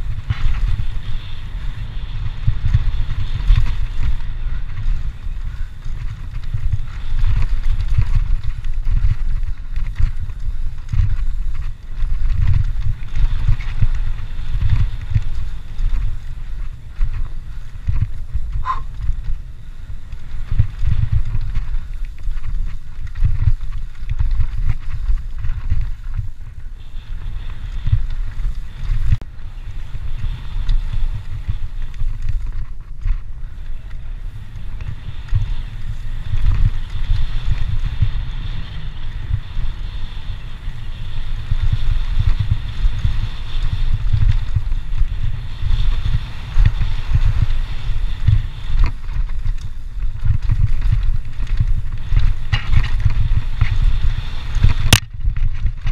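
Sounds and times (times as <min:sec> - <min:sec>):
bike rumbling over dirt: 0:00.0 - 0:55.9
wind buffeting microphone: 0:00.0 - 0:55.9.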